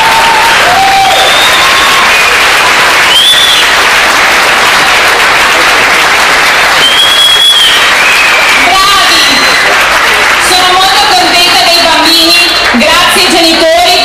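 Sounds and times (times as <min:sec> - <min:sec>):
crowd applause: 0:00.0 - 0:14.0.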